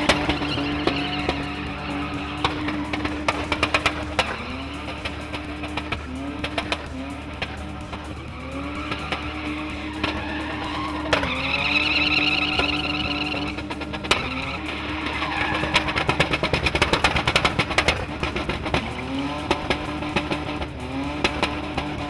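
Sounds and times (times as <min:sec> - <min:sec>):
tyres squealing: 0:00.0 - 0:17.8
engine revving high: 0:00.0 - 0:22.0
rapid crackling: 0:00.0 - 0:22.0.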